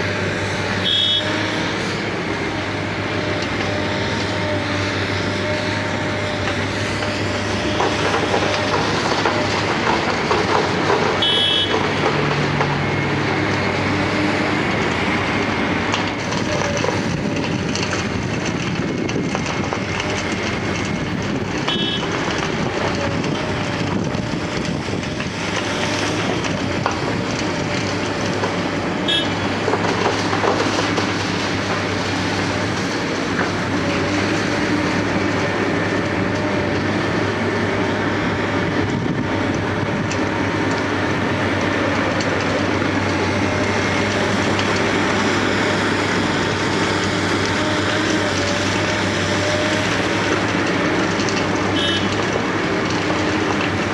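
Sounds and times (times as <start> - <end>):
diesel engine hum: 0.0 - 53.9
milling drum grinding asphalt: 0.0 - 53.9.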